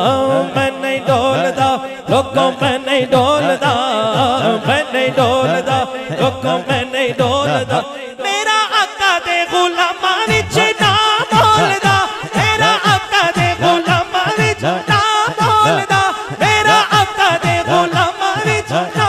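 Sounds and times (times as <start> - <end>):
voices singing and chanting: 0.0 - 19.0.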